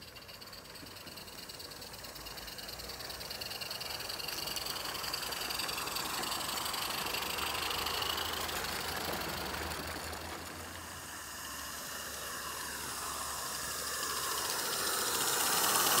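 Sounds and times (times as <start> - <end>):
steam locomotive exhaust beats: 0.0 - 16.0
wheels running on track: 0.0 - 16.0.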